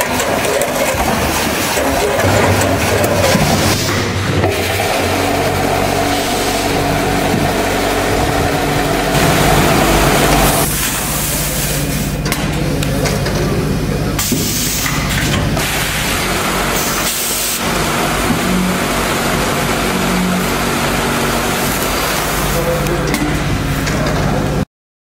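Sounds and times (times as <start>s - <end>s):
packaging machinery humming: 0.0s - 24.6s.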